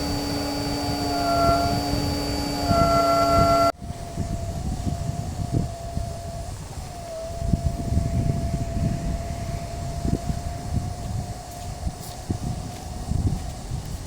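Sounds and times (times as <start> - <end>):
high whistling tone: 0.0 - 14.0
wind buffeting microphone: 0.0 - 14.0.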